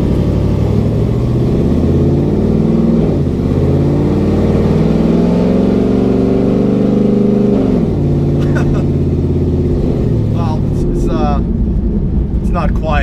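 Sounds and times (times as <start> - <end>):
car engine exhaust revving: 0.0 - 13.0.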